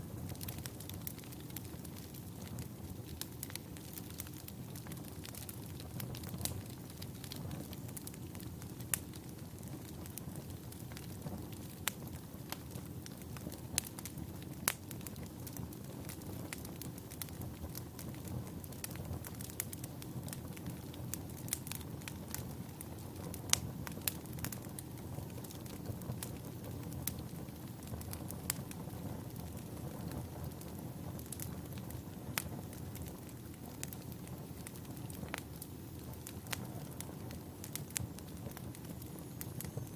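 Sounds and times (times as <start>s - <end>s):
fire rumbling: 0.0s - 39.9s
wood crackling and popping: 0.0s - 39.9s.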